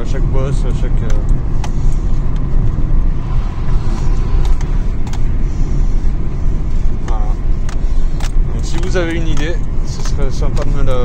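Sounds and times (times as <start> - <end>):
road rumble inside car: 0.0 - 11.0
suspension clunking: 0.0 - 11.0.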